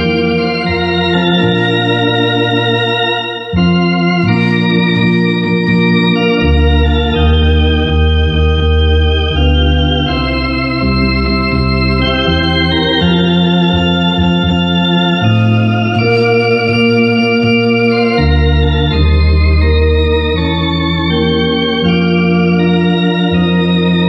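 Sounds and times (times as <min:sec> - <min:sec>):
electronic organ playing a hymn: 0:00.0 - 0:24.0.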